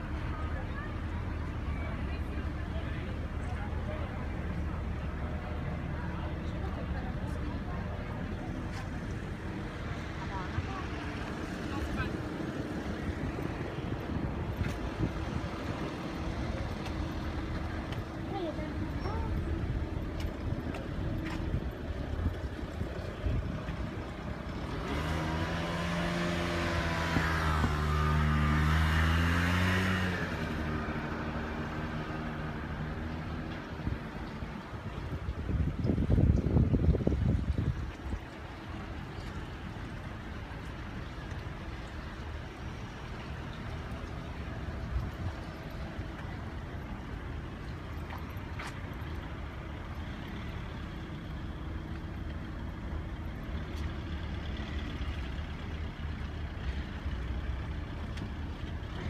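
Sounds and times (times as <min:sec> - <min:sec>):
engine humming: 0:00.0 - 0:59.0
low outdoor rumble: 0:00.0 - 0:59.0.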